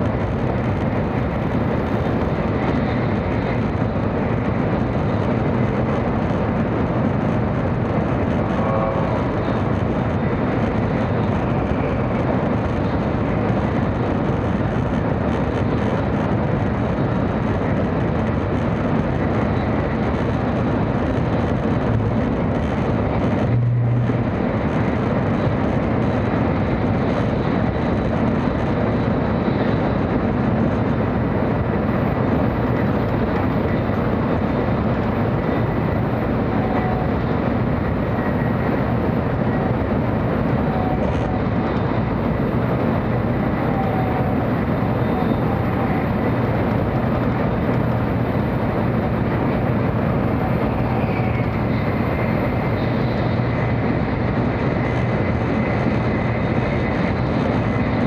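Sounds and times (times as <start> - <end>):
train running at speed: 0.0 - 58.0.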